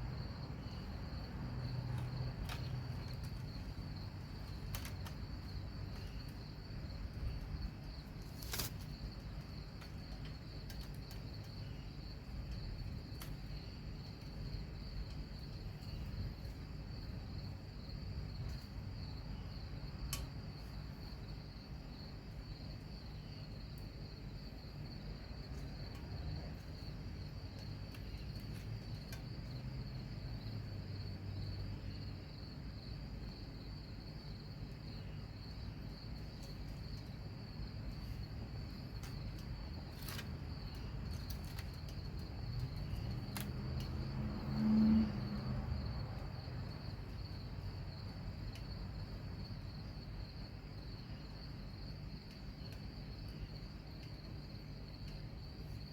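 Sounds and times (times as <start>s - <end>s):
insect chorus trilling: 0.0s - 55.9s.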